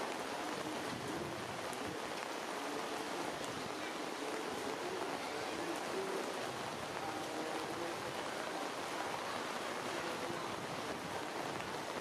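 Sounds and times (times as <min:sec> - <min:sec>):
rain falling on foliage: 0:00.0 - 0:12.0.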